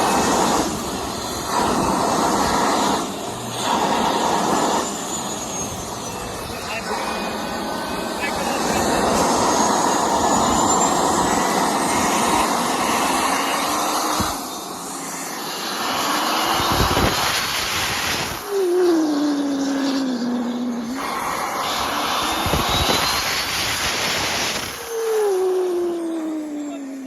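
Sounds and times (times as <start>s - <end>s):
diesel engine running hard: 0.0s - 27.0s
turbo whistle rising in pitch: 0.0s - 27.0s.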